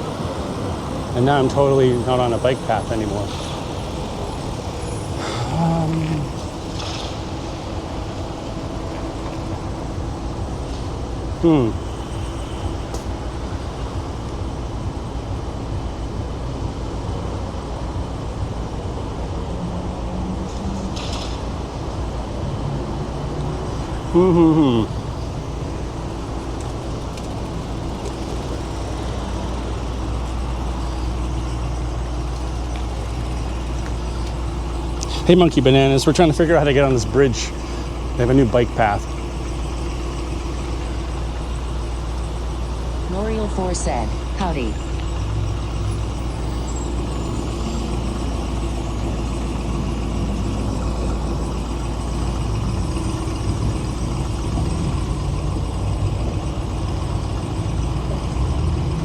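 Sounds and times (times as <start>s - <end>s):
street traffic: 0.0s - 59.0s.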